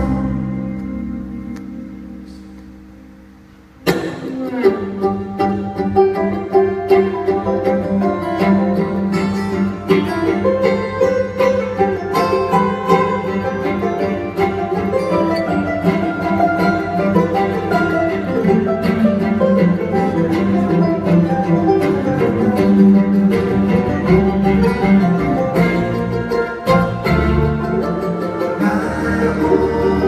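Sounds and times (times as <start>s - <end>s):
acoustic string band playing: 0.0s - 30.0s.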